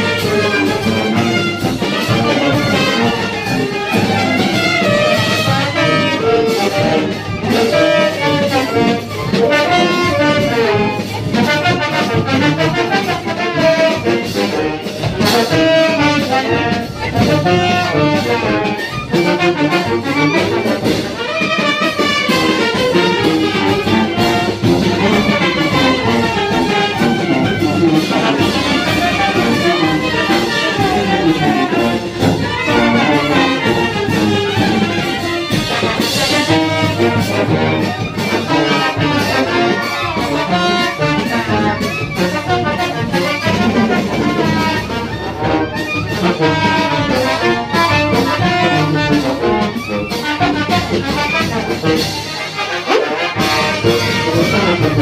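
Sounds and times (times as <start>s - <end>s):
brass band playing dance music: 0.0s - 55.0s.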